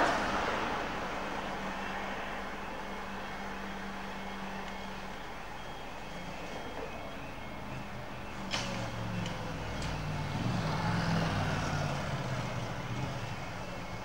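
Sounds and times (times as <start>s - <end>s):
light road traffic: 0.0s - 14.0s.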